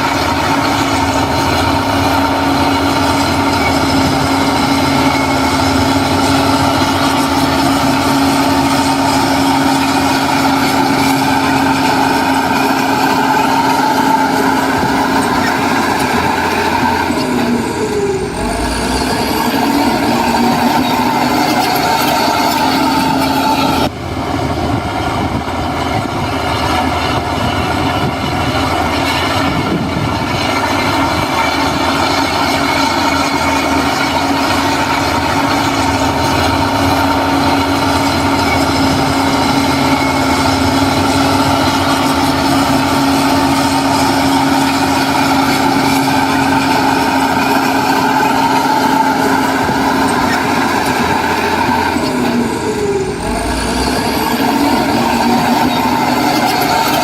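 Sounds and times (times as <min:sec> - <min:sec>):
diesel machinery running: 0:00.0 - 0:57.0
steady whine: 0:00.0 - 0:57.0.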